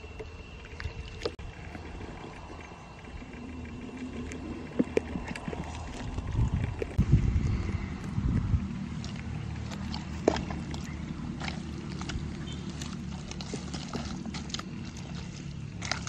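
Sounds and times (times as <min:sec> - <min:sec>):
low rumble: 0:00.0 - 0:16.0
mud squelching: 0:00.0 - 0:16.0.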